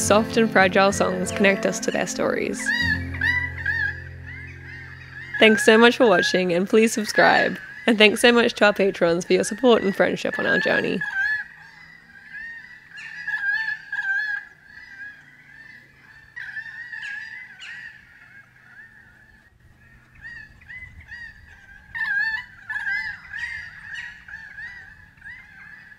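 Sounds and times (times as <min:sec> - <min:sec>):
chorus of short arching animal calls: 0:00.8 - 0:25.9.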